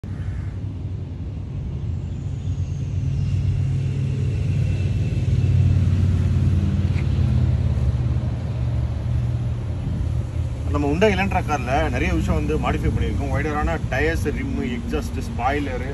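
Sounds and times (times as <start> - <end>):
deep exhaust rumble: 0.0 - 15.9.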